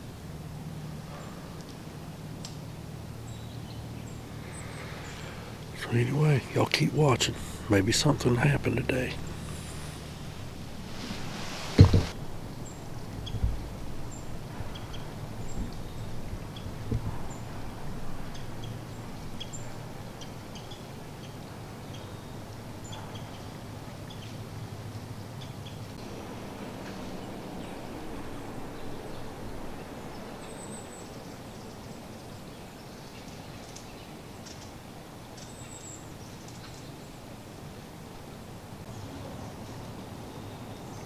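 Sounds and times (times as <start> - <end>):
low outdoor background hum: 0.0 - 41.0.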